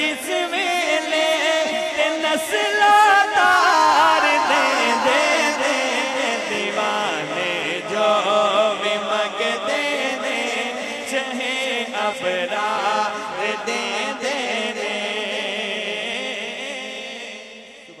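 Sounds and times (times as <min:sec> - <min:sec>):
man singing through microphone: 0:00.0 - 0:18.0.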